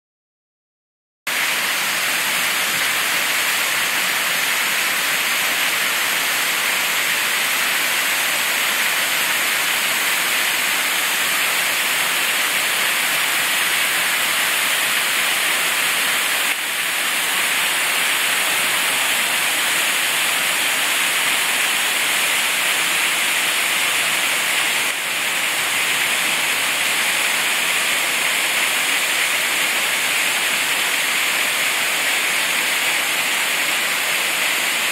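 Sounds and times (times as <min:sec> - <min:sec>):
waterfall rushing: 0:01.3 - 0:34.9.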